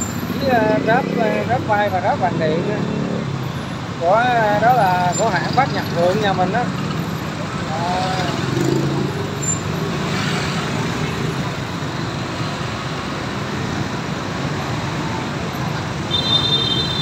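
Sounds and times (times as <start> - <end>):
motorbike and bus traffic rumble: 0.0 - 17.0.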